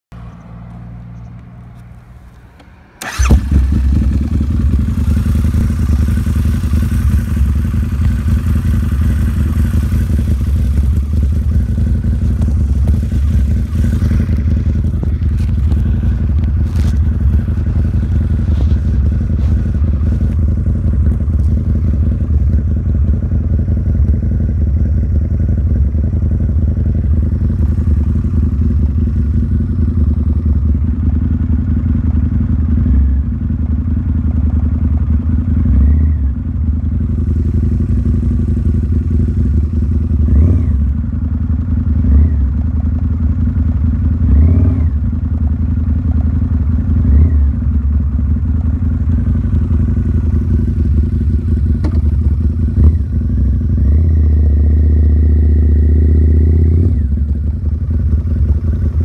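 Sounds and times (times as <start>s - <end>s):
muffled motorcycle engine: 0.1s - 59.0s.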